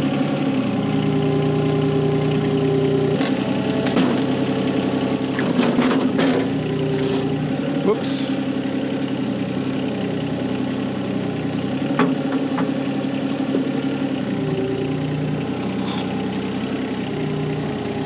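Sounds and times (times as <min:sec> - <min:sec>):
mini excavator diesel engine running: 0:00.0 - 0:18.0.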